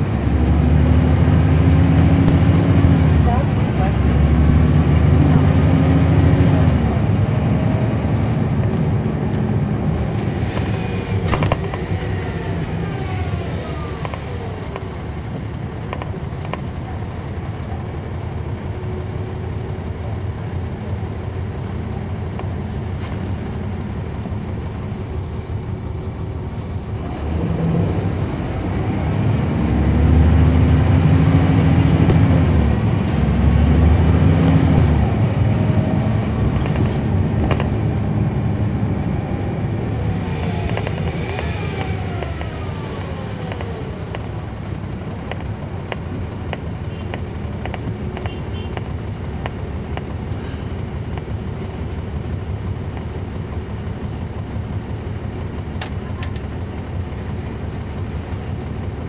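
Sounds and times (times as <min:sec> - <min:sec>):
bus engine whining and revving: 0:00.0 - 0:59.0.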